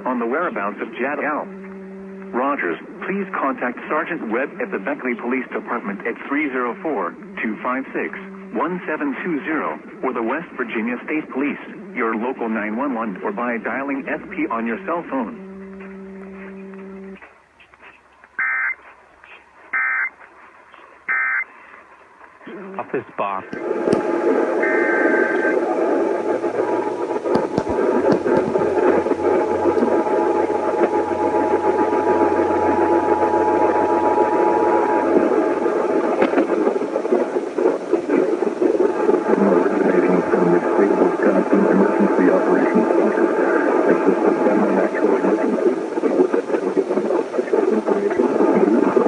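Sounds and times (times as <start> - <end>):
indistinct broadcast audio: 0.0 - 49.0
low hum: 0.0 - 49.0
radio static: 0.0 - 49.0.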